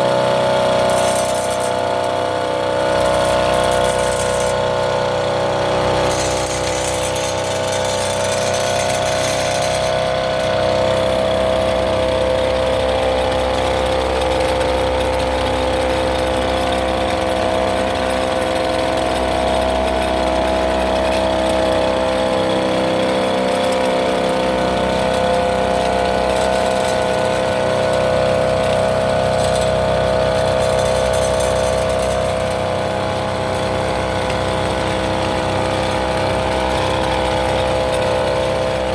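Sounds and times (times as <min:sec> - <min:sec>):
small engine humming steadily: 0:00.0 - 0:38.9.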